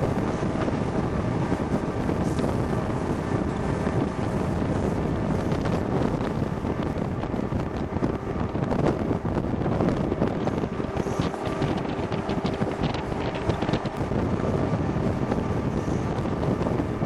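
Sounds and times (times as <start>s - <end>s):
train wheels rumbling on rails: 0.0s - 17.0s
wind buffeting microphone: 0.0s - 17.0s.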